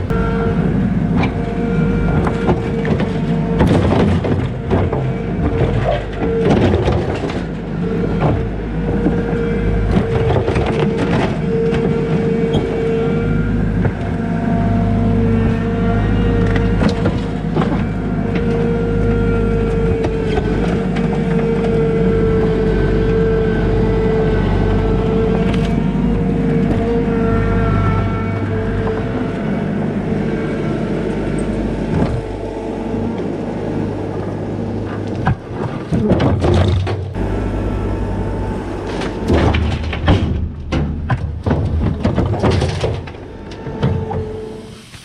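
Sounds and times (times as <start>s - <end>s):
diesel engine running: 0.0s - 45.0s
hydraulic whine: 0.0s - 45.0s.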